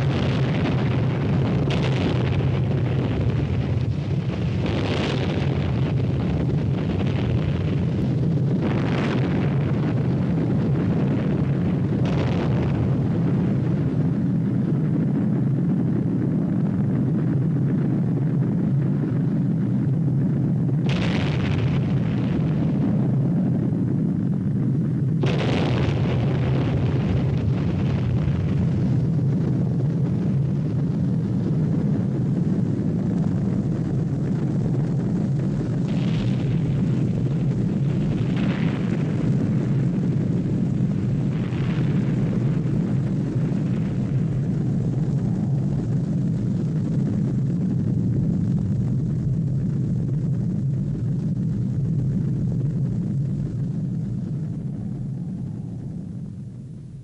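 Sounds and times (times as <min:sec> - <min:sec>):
explosion blasts: 0:00.0 - 0:19.2, 0:20.1 - 0:50.0
deep explosion rumble: 0:00.0 - 0:57.0.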